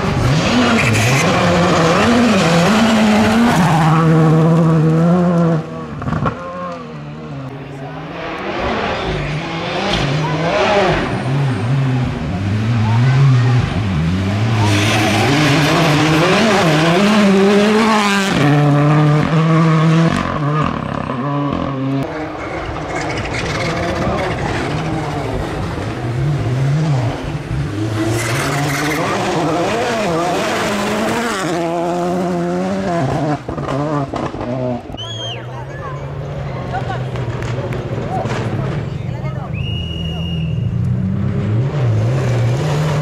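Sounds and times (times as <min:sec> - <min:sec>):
car engine revving: 0:00.0 - 0:35.0, 0:40.0 - 0:43.0.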